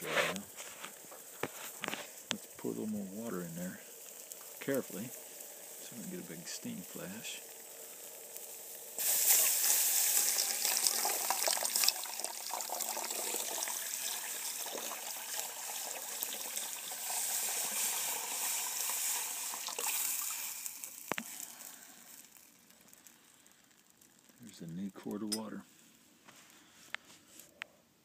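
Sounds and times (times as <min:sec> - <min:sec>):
water pouring and splashing: 0:00.0 - 0:23.1
water hissing into steam: 0:00.0 - 0:24.0.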